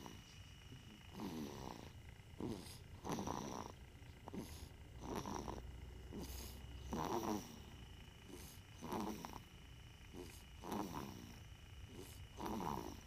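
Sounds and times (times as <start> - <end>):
baby snoring: 0.0 - 0.3, 1.1 - 9.5, 10.1 - 13.0.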